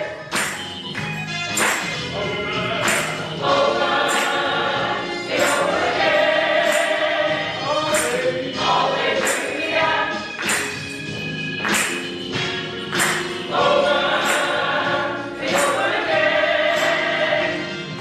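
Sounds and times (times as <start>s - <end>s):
gospel choir singing: 0.0s - 0.3s, 1.6s - 18.0s
percussion hits: 0.2s - 17.4s.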